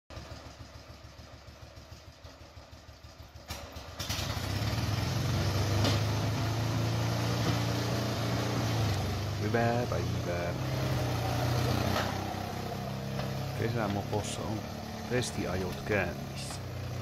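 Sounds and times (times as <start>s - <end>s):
motorcycle engine idling and revving: 0.1s - 17.0s.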